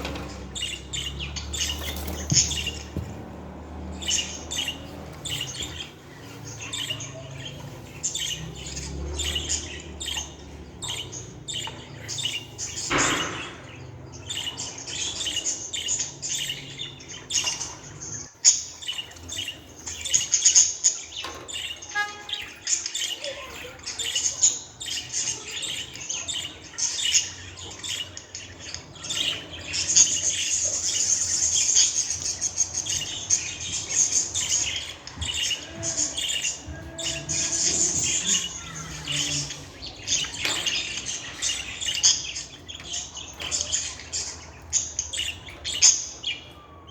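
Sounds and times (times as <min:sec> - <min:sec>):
budgerigar chirping and warbling: 0:03.9 - 0:46.8.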